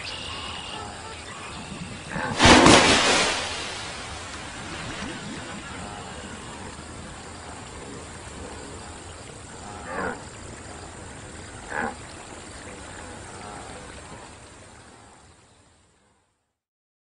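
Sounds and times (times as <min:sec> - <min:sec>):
faint ambient hiss: 0:00.0 - 0:16.6.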